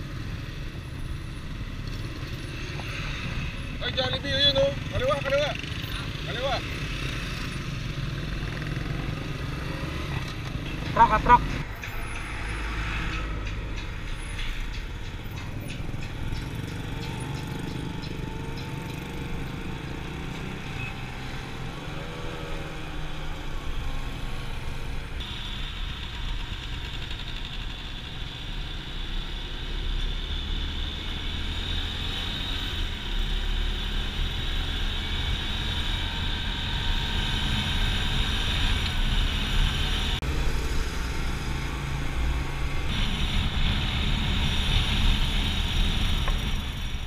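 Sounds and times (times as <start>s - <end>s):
motorcycle engine drone: 0.0s - 47.0s.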